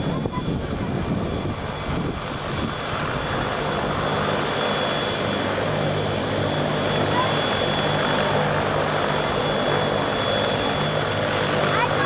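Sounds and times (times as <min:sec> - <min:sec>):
aircraft engines droning: 0:00.0 - 0:12.0
high engine whines: 0:00.0 - 0:12.0.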